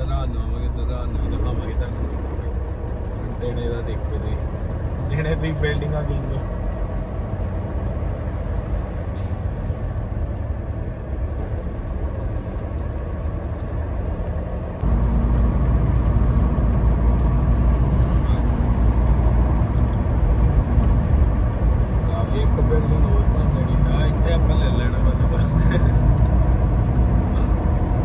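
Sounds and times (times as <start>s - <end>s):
diesel truck engine drone: 0.0s - 28.0s
road noise inside cab: 0.0s - 28.0s.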